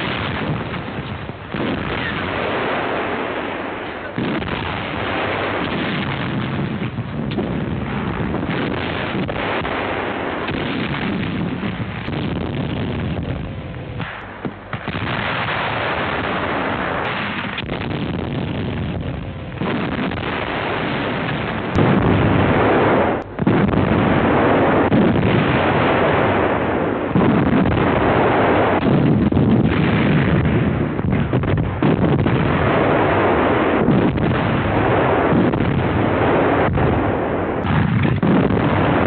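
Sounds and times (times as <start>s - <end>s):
artillery booms and rumbling: 0.0s - 39.0s.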